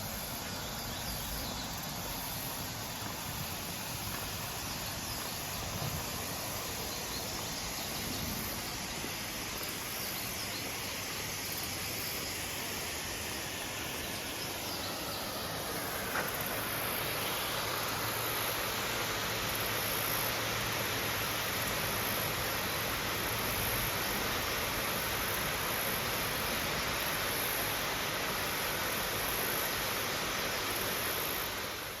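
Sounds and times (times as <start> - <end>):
waterfall rushing: 2.0 - 32.0.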